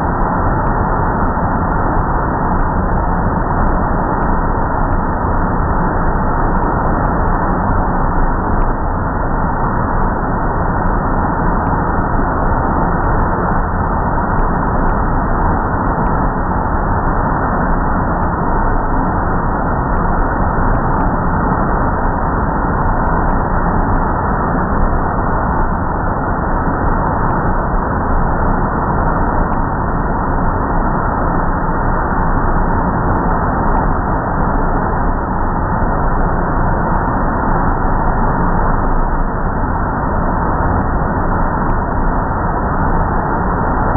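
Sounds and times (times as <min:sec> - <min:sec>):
faint whine: 0:00.0 - 0:43.9.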